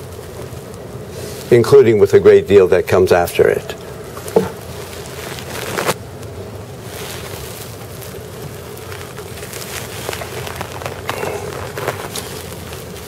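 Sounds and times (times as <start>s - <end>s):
faint rustles: 0.0s - 2.1s, 3.3s - 13.0s
low hum and hiss: 0.0s - 13.0s.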